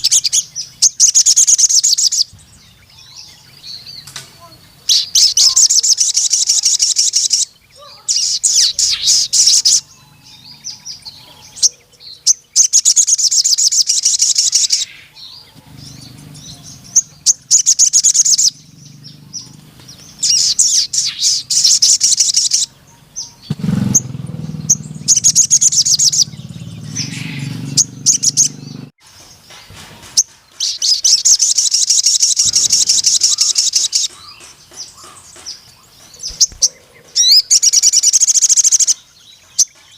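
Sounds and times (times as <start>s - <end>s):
bird singing rapid high trills: 0.0s - 39.9s
bird chips: 3.8s - 39.9s.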